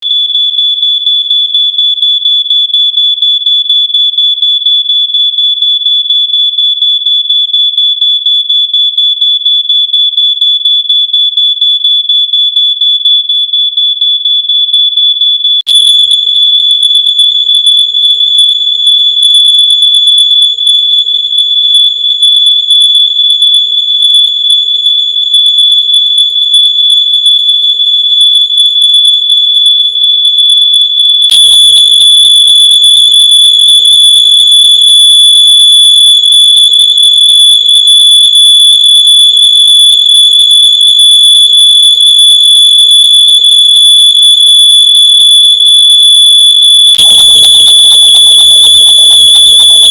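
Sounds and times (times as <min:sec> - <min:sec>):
pulsing smoke alarm tone: 0:00.0 - 0:49.9.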